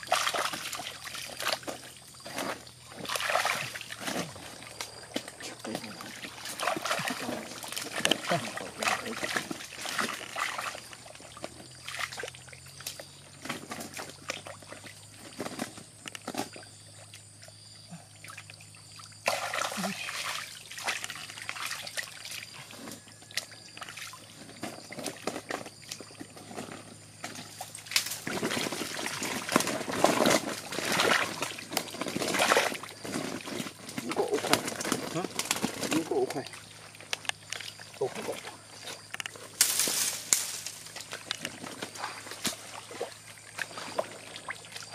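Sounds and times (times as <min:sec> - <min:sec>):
splashing and sloshing water: 0:00.0 - 0:44.9.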